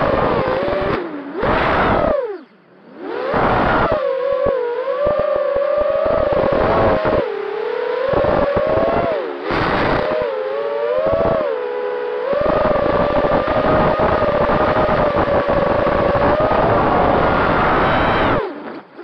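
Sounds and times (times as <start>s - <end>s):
wind rushing over microphone: 0.0s - 2.2s, 3.2s - 7.3s, 8.1s - 11.6s, 12.3s - 18.5s
drone motors whining: 0.0s - 19.0s.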